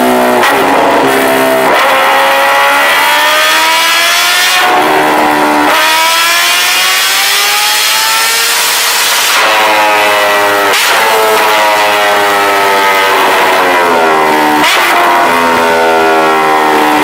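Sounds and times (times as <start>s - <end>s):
motorcycle engine accelerating hard: 0.0s - 17.0s.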